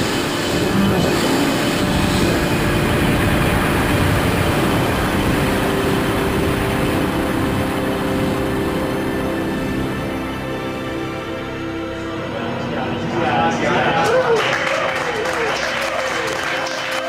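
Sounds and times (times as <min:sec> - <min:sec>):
low droning tone: 0:00.0 - 0:14.4
rushing roar of air: 0:00.0 - 0:17.0.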